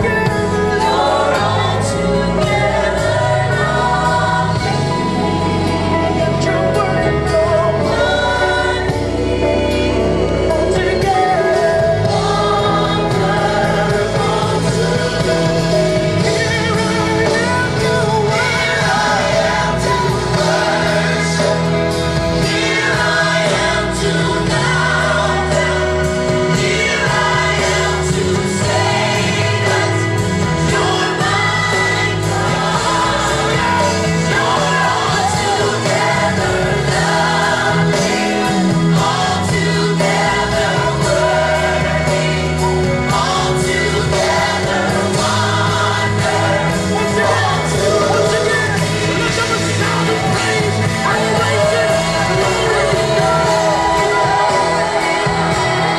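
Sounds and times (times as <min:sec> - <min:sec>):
band accompaniment: 0:00.0 - 0:55.9
gospel choir singing: 0:00.0 - 0:55.9
steady bass line: 0:00.0 - 0:55.9.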